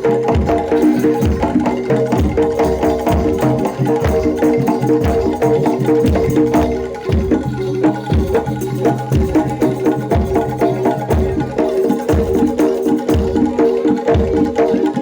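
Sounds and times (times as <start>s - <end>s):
drums beating driving rhythm: 0.0s - 15.0s
ringing gamelan notes: 0.0s - 15.0s.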